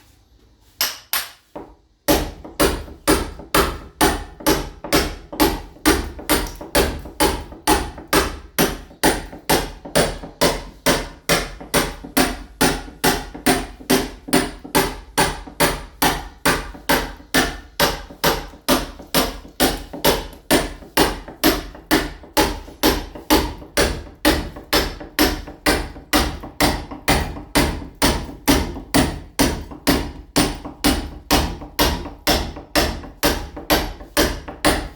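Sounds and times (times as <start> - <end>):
hammer striking steel chisel: 0.8 - 34.9.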